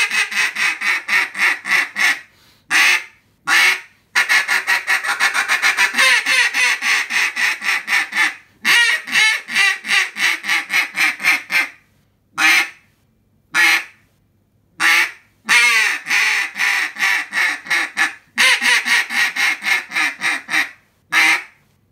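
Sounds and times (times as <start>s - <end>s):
duck call quacking: 0.0s - 11.8s, 12.4s - 12.8s, 13.6s - 14.0s, 14.8s - 21.6s.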